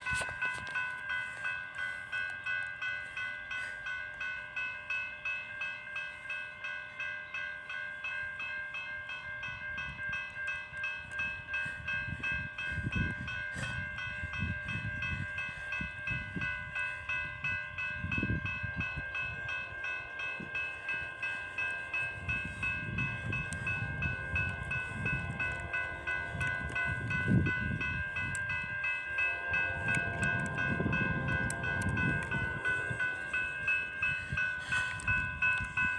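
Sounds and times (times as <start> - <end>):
railroad crossing bell ringing: 0.0 - 35.9.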